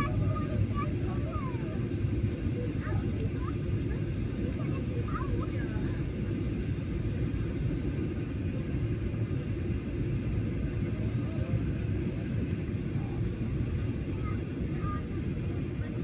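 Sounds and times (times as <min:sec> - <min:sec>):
jet engine rumble in cabin: 0:00.0 - 0:16.0.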